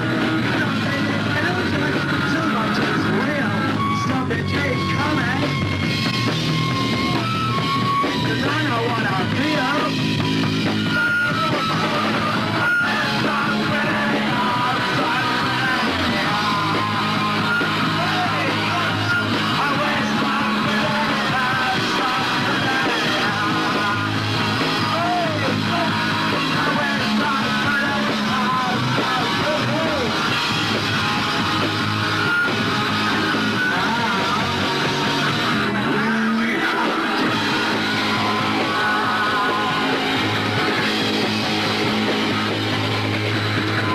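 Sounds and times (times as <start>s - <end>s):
punk rock band playing: 0.0s - 43.9s.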